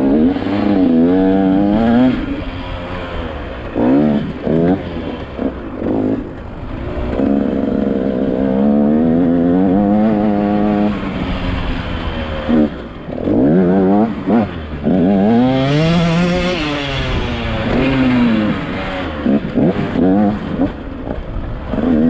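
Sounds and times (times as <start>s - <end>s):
motocross bike engine revving: 0.0s - 22.0s.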